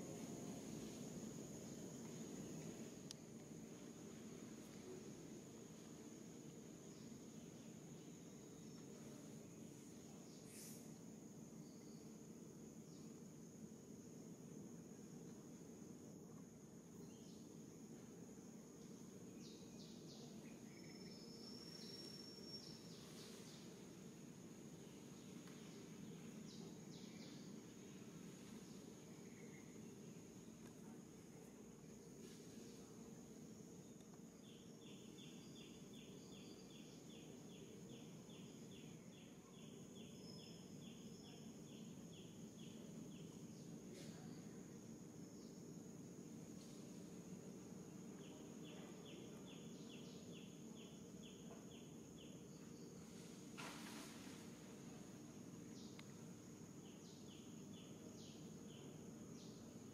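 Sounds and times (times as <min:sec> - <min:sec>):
high insect drone: 0:00.0 - 0:59.9
low hiss: 0:00.0 - 0:59.9.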